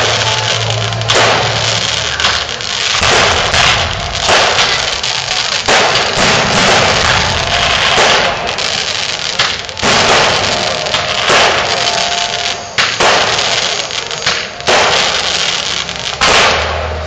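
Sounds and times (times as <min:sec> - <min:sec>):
fireworks bursting with loud bangs: 0:00.0 - 0:17.0.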